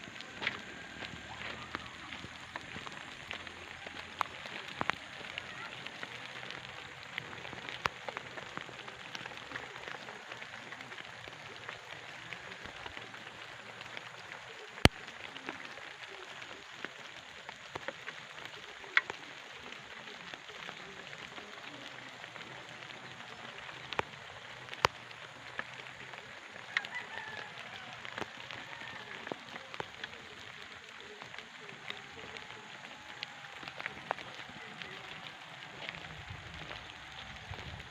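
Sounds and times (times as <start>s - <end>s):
drops ticking on a surface: 0.0s - 37.9s
steady rain falling: 0.0s - 37.9s.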